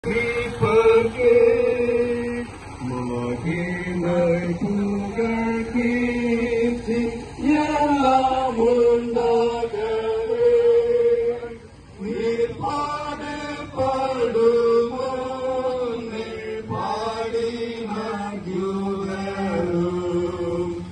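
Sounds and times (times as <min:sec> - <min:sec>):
procession singing a hymn: 0:00.0 - 0:20.9.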